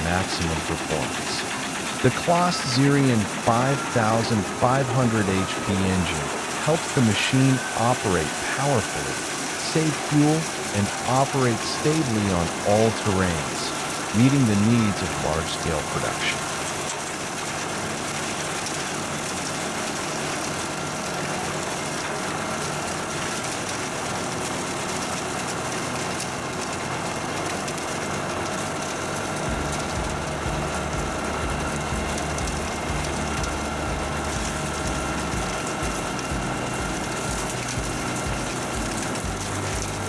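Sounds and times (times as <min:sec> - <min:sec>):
wood chipping machine running: 0:00.0 - 0:40.0.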